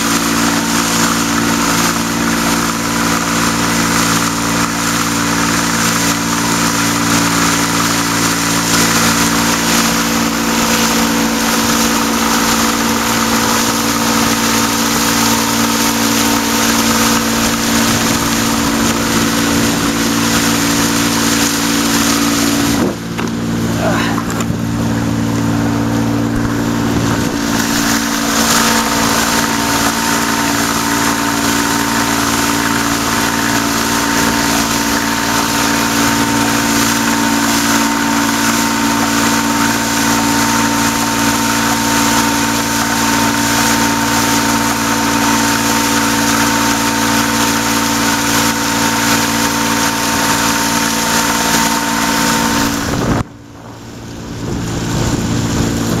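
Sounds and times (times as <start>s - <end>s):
electric motor whine and hum: 0.0s - 56.0s
rushing spraying water: 0.0s - 56.0s
wind: 0.0s - 56.0s.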